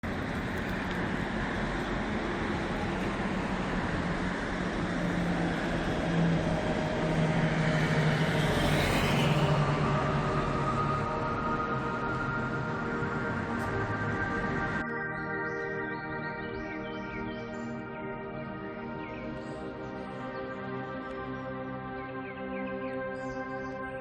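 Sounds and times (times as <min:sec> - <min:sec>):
road traffic with engine hum: 0:00.0 - 0:24.0.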